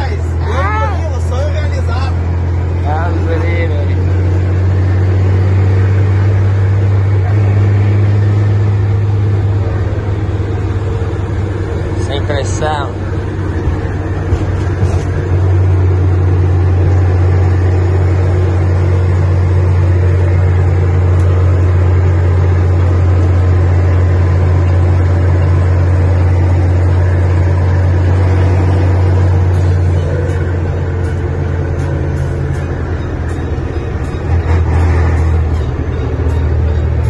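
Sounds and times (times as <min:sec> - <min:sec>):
road noise: 0:00.0 - 0:37.0
truck diesel engine droning: 0:00.0 - 0:37.0.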